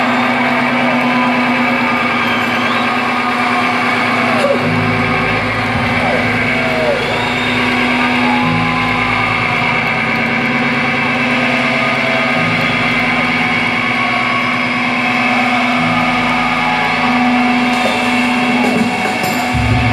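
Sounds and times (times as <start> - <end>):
rock band drone through pa: 0.0 - 19.9.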